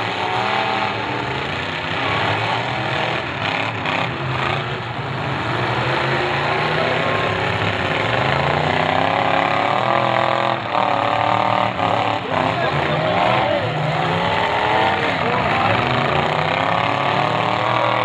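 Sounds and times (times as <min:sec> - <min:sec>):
car engines running rough: 0:00.0 - 0:18.0
engine revving: 0:00.0 - 0:18.0.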